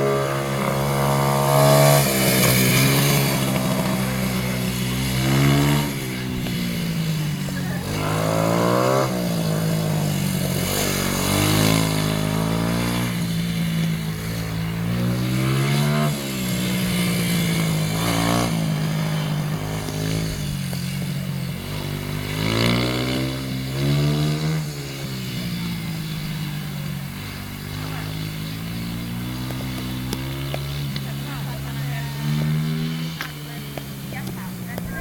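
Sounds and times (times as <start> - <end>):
small motorcycle engine revving: 0.0 - 35.0.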